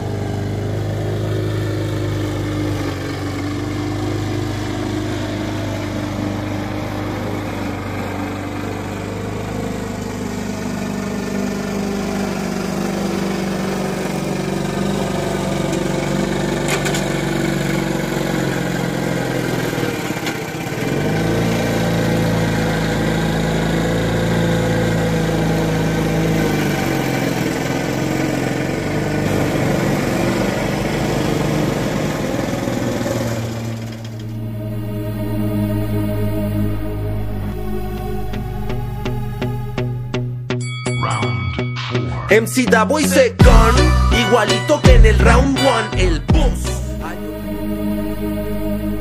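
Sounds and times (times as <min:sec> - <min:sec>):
lawn mower engine running: 0:00.0 - 0:40.2, 0:42.8 - 0:49.0.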